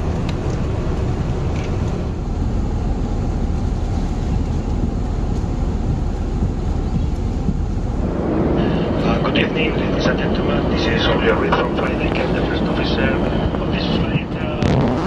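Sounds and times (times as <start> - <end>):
airflow noise: 0.0 - 15.0
engine noise: 0.0 - 15.0.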